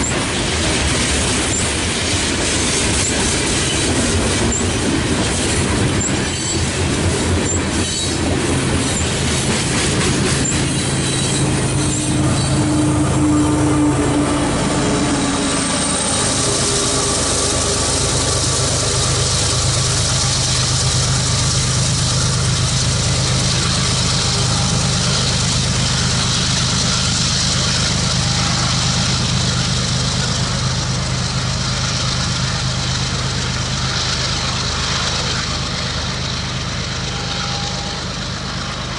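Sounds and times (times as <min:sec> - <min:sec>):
locomotive engine drone: 0:00.0 - 0:38.9
train rolling noise: 0:00.0 - 0:38.9.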